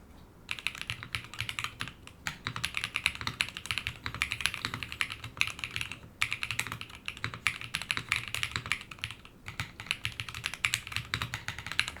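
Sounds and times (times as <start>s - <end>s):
typing on mechanical keyboard: 0.5s - 12.0s.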